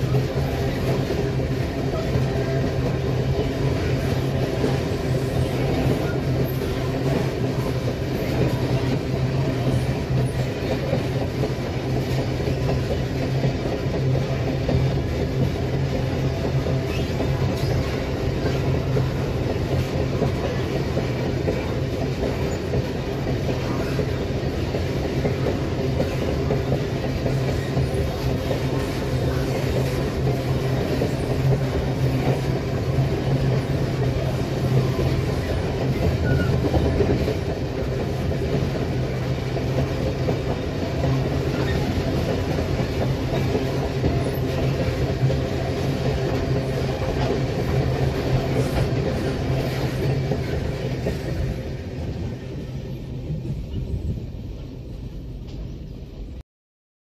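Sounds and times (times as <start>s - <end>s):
freight train wheels rumbling on rails: 0.0s - 56.4s.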